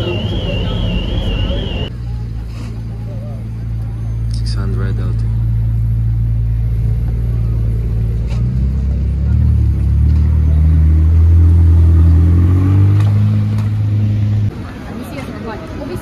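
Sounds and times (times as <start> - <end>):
car engine pulling away: 0.0 - 14.5.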